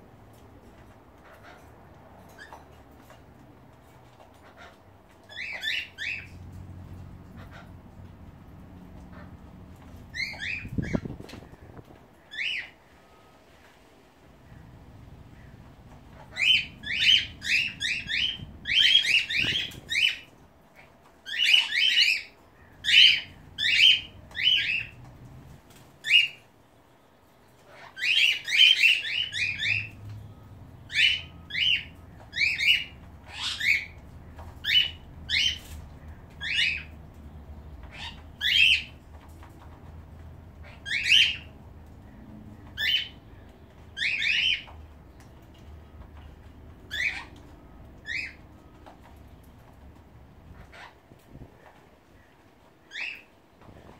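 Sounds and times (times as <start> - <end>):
birds calling: 0.0 - 53.9.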